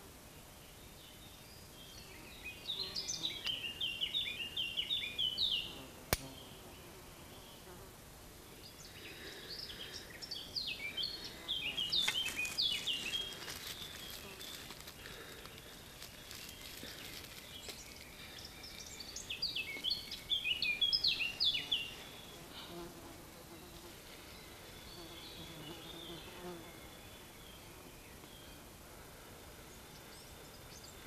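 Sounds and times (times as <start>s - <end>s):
songbird chirping: 0.0s - 31.0s.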